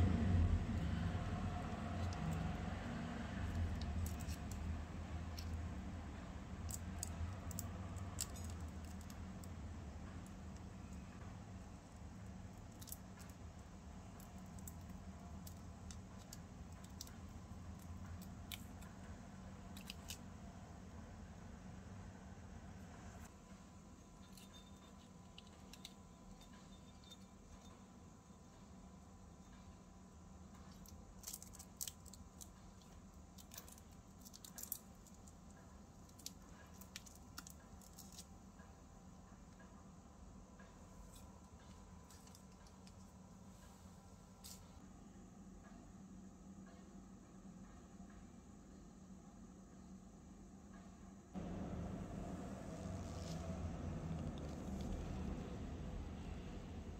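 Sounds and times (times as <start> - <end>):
low steady hum: 0.0 - 56.9.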